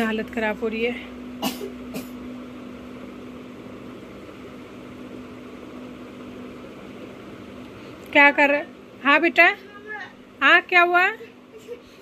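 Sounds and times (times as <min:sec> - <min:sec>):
air cooler fan hum: 0:00.0 - 0:12.0.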